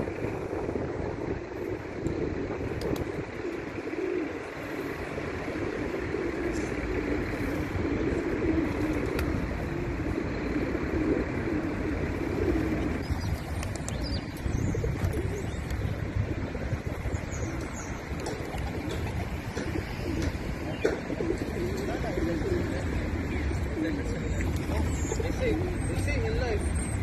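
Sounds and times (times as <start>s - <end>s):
low background rumble: 0.0s - 27.0s
pigeons cooing: 0.0s - 27.0s.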